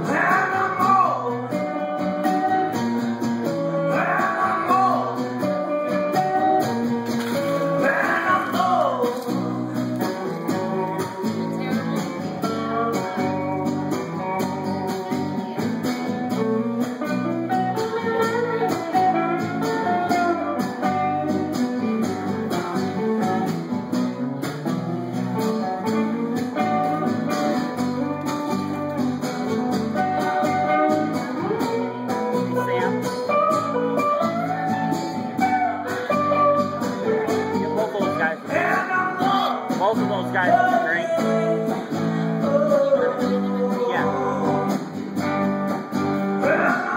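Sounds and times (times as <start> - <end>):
live band playing instrumental: 0.0 - 46.9.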